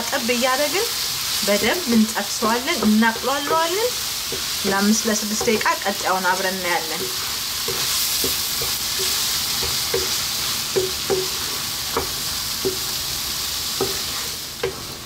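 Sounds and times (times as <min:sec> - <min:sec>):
meat sizzling in a wok: 0:00.0 - 0:15.0
wooden spatula scraping a wok: 0:00.8 - 0:13.0, 0:13.7 - 0:15.0.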